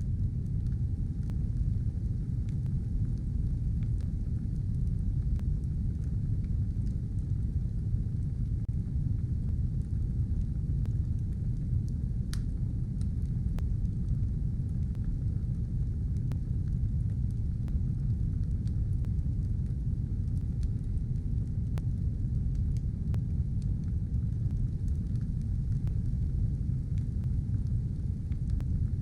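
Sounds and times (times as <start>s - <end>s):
fire crackles and pops: 0.0s - 29.0s
fire roaring: 0.0s - 29.0s.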